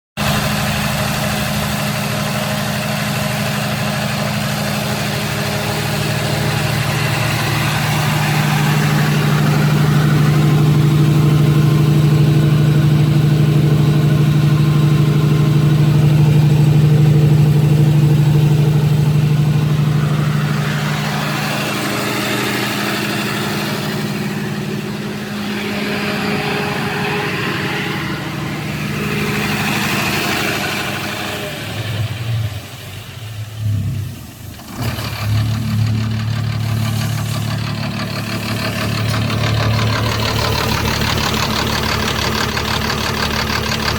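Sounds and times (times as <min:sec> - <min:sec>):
diesel generator humming: 0:00.2 - 0:43.9.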